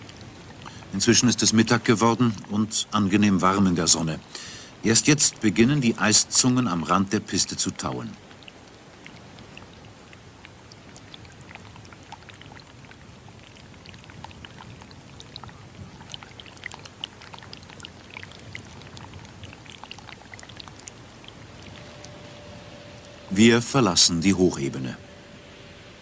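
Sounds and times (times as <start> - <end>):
meltwater trickling: 0.0 - 26.0
water drips: 0.0 - 26.0.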